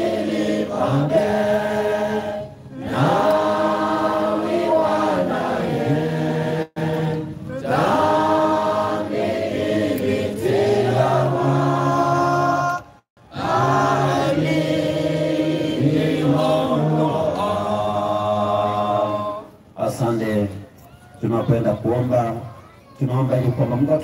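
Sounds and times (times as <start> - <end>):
congregation singing a hymn: 0.0 - 19.6.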